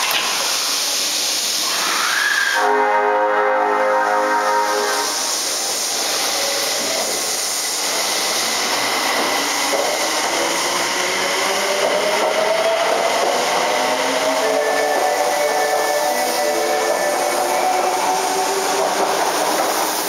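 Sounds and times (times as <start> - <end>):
electric train pulling away: 0.3 - 20.0.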